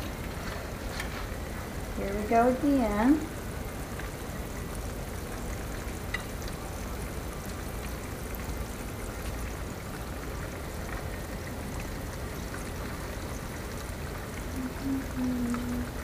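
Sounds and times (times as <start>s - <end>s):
fish sizzling in hot oil: 0.0s - 14.5s
faint crackles: 0.0s - 16.0s.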